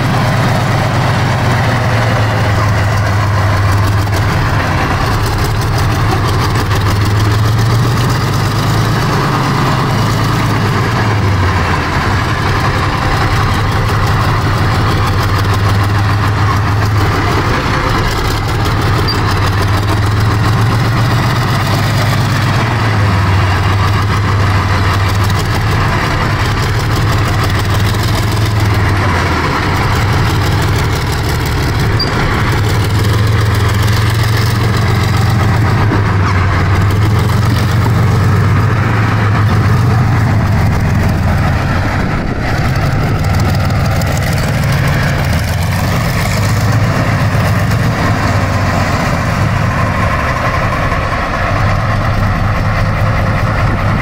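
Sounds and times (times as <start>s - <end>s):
tank diesel engine running: 0.0s - 54.0s.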